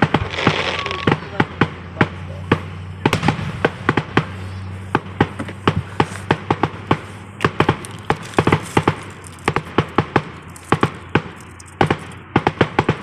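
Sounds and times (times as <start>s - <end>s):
fireworks bangs: 0.0s - 13.0s
fireworks cracking and popping: 0.0s - 13.0s.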